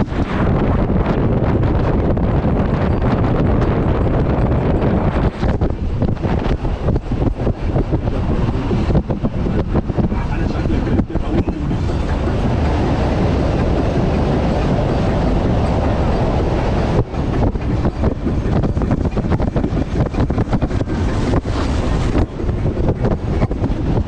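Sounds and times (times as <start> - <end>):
boat engine rumble: 0.0 - 24.0
wind buffeting microphone: 0.0 - 24.0.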